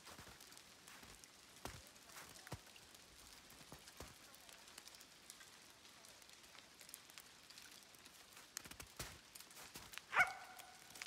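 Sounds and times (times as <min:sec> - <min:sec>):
small hail pattering: 0:00.0 - 0:11.0.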